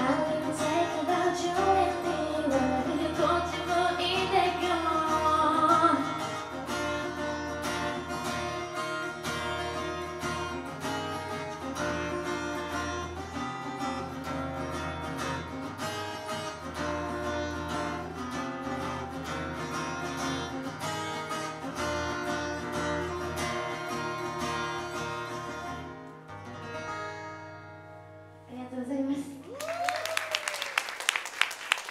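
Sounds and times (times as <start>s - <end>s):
acoustic guitar strumming: 0.0s - 28.5s.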